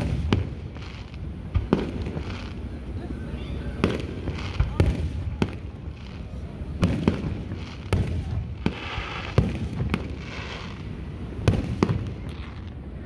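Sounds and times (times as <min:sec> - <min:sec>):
hissing crackle: 0:00.0 - 0:02.9, 0:03.7 - 0:13.0
fireworks bangs: 0:00.0 - 0:13.0.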